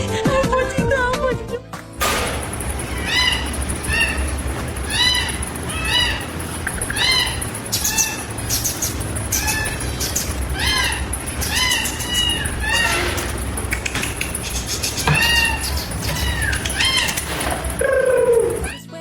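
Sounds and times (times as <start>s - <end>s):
cat meowing: 2.2s - 19.0s.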